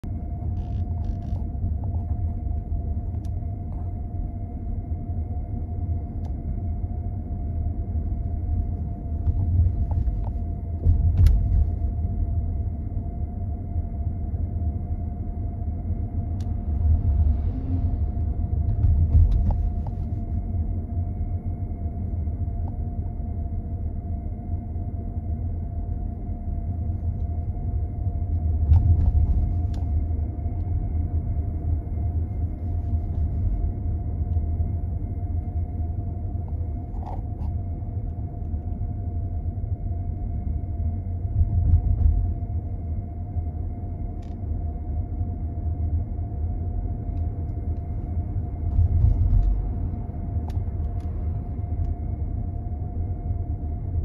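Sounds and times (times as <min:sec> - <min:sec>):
engine and tyre rumble: 0:00.0 - 0:23.4, 0:25.4 - 0:39.4, 0:41.2 - 0:54.0
thin steady hum: 0:00.0 - 0:54.0.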